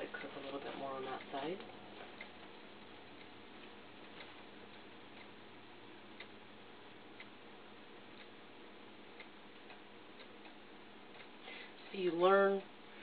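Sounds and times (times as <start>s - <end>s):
faint regular ticking: 0.0s - 13.0s
steady low hiss: 0.0s - 13.0s.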